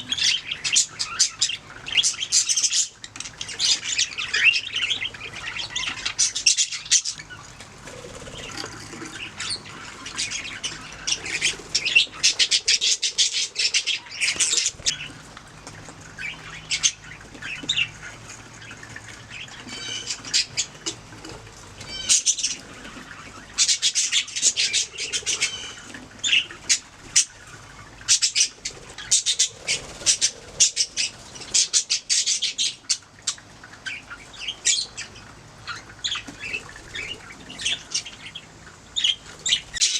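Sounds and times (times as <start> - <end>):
budgerigars chirping: 0.0 - 15.2, 16.2 - 21.0, 21.8 - 39.9.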